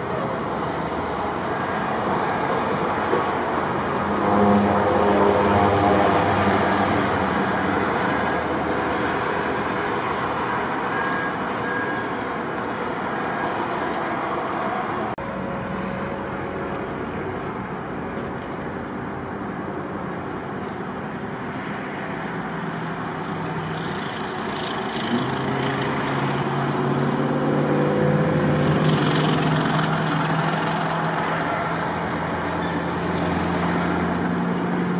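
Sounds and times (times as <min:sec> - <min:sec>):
heavy truck engine drone: 0:00.0 - 0:34.9
highway traffic noise: 0:00.0 - 0:34.9.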